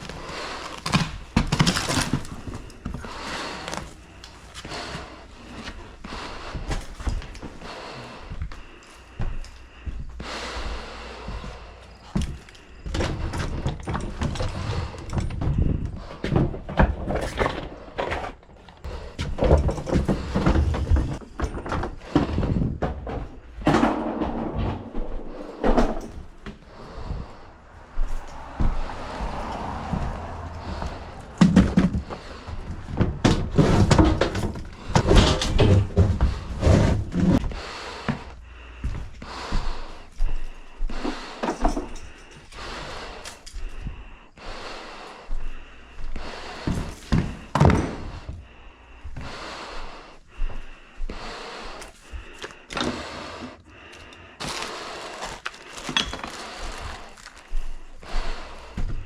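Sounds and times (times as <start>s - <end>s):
objects thumping and clattering: 0.0s - 44.0s, 46.1s - 49.3s, 54.3s - 59.0s.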